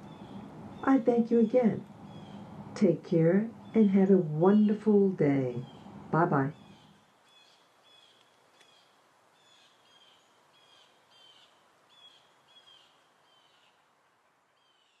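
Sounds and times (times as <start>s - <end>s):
bird chirping faintly: 0.0s - 13.8s.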